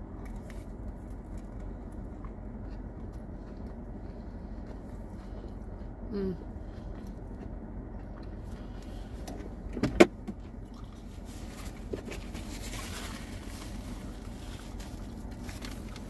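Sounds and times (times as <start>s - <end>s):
car air conditioning hum: 0.0s - 16.0s.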